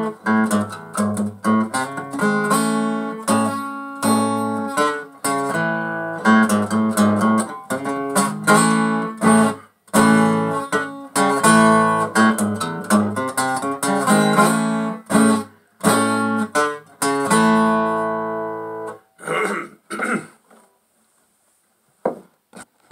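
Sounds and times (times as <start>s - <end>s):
acoustic guitar strumming blues: 0.0s - 20.1s.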